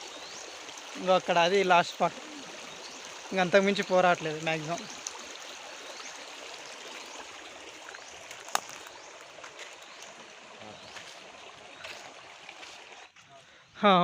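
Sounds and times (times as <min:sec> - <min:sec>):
stream flowing over rocks: 0:00.0 - 0:13.2.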